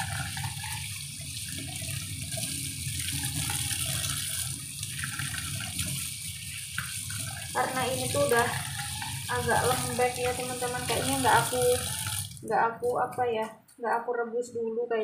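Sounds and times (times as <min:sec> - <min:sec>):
tap water splashing into sink: 0:00.0 - 0:12.4.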